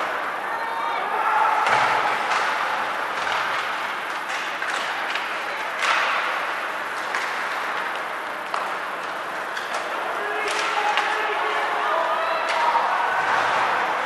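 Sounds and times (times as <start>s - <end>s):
hockey sticks and puck clacking: 1.5s - 14.0s.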